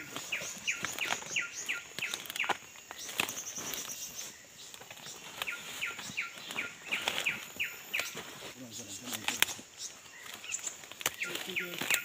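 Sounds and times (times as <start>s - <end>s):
feet pushing through undergrowth: 0.0s - 12.0s
thin high bird twittering: 0.0s - 12.0s.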